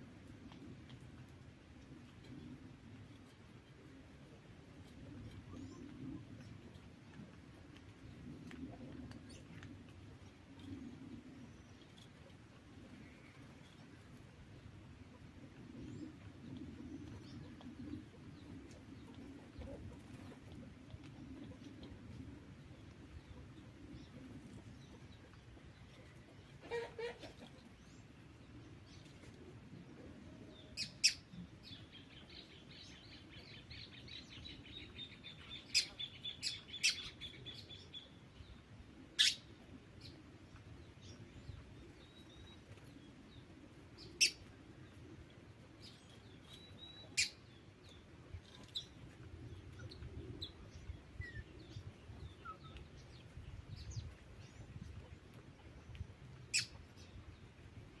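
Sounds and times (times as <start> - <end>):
low background rumble: 0.0 - 58.0.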